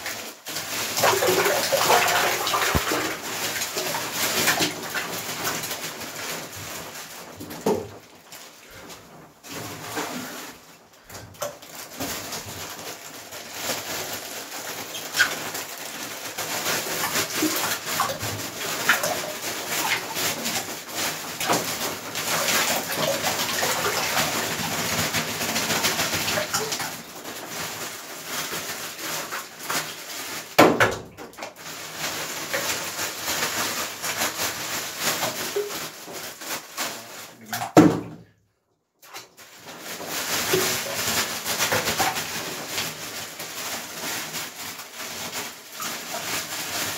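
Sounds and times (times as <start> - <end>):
ice cubes clattering into water: 0.0 - 38.0, 39.6 - 46.9.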